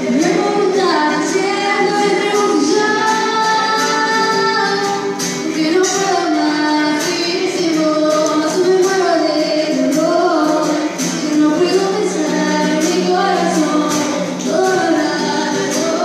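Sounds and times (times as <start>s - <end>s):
guitar strumming: 0.0s - 16.0s
woman singing slow melody: 0.0s - 16.0s.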